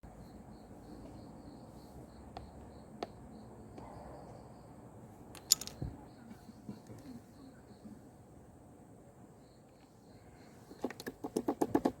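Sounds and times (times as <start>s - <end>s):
faint high chirping: 0.0s - 8.2s, 9.3s - 11.0s.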